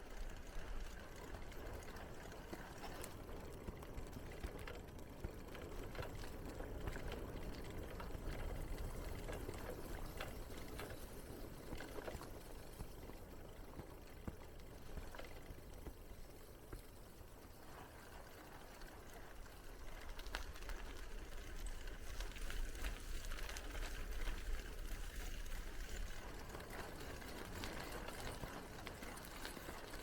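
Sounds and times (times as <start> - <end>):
bicycle tyres rolling over path: 0.0 - 30.0
wind rumble on microphone: 0.0 - 30.0.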